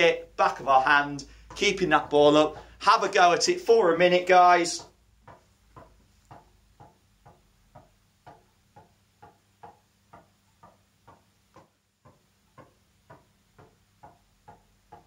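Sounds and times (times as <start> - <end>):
tennis ball tapping on racket strings: 0.0 - 15.0.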